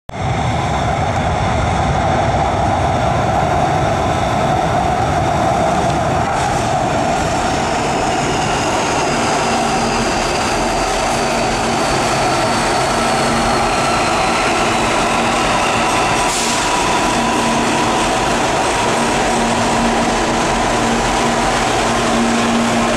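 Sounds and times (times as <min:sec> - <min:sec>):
train running noise: 0:00.1 - 0:22.9.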